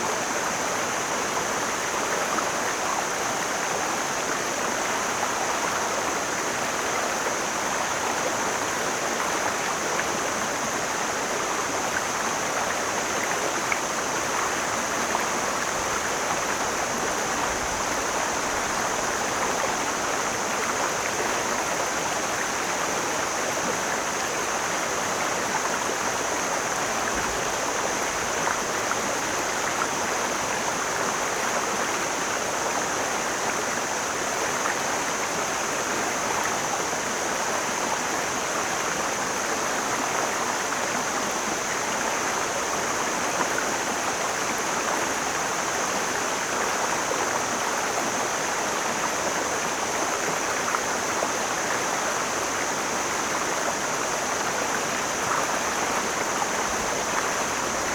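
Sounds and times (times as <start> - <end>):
mountain stream flowing: 0.0 - 57.9.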